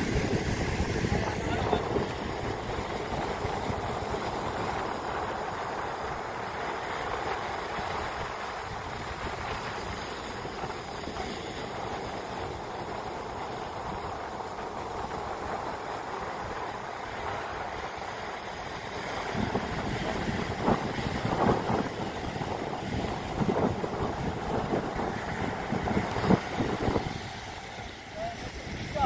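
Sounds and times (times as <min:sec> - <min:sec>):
ocean surf breaking: 0:00.0 - 0:29.0
wind rumble on microphone: 0:00.0 - 0:29.0.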